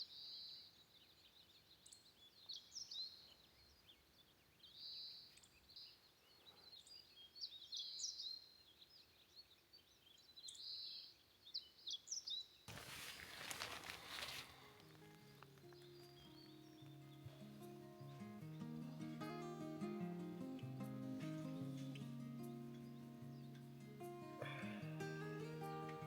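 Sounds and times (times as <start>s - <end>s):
faint birds chirping: 0.0s - 26.0s.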